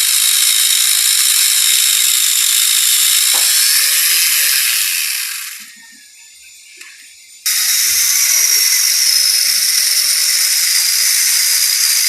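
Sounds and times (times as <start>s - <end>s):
chainsaw grinder whining: 0.0s - 6.1s, 6.8s - 12.0s.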